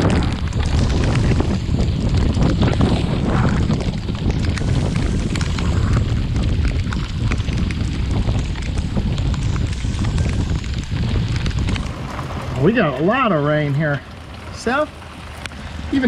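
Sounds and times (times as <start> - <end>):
dense patter of raindrops: 0.0 - 16.0
wind buffeting microphone: 0.0 - 16.0.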